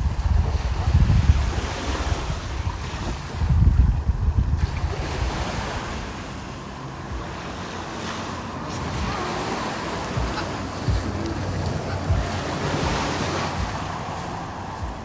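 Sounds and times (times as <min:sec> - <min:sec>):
surf washing in: 0:00.0 - 0:15.0
wind buffeting microphone: 0:00.0 - 0:15.0.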